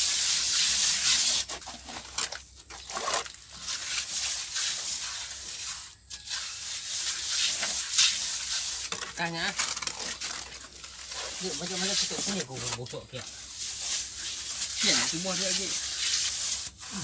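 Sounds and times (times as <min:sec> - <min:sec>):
trowel scraping wet cement: 0:00.0 - 0:17.0.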